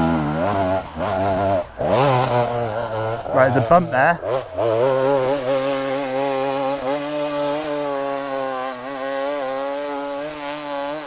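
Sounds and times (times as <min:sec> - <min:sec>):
two-stroke dirt bike engine revving: 0:00.0 - 0:11.0.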